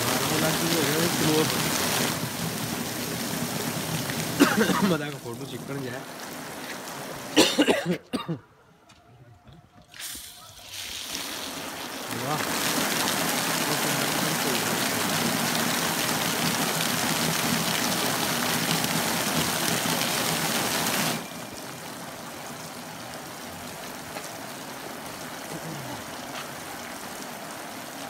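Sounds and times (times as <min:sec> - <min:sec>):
fountain water splashing: 0:00.0 - 0:07.8, 0:09.9 - 0:28.0.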